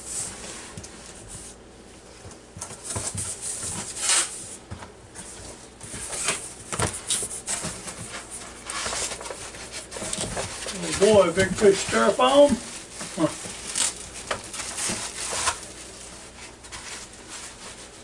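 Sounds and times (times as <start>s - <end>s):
cardboard scraping: 2.8s - 4.6s, 5.2s - 18.0s.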